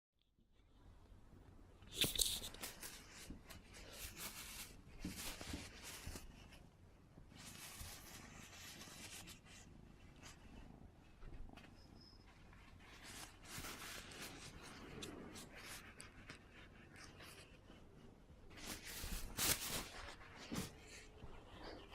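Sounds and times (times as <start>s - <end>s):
tissue rustling and crinkling: 2.0s - 11.5s, 12.5s - 21.9s.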